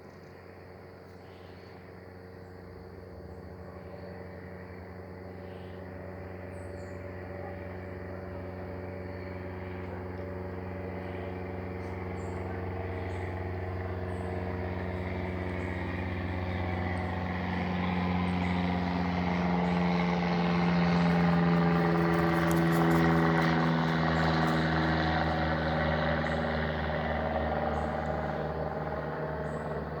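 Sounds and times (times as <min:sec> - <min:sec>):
light aircraft engine droning: 0:00.0 - 0:30.0.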